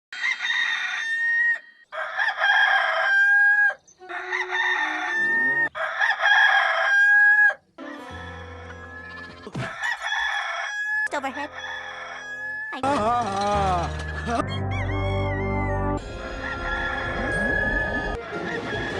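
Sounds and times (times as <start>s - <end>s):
rooster crowing: 0.1s - 12.8s, 14.7s - 18.9s.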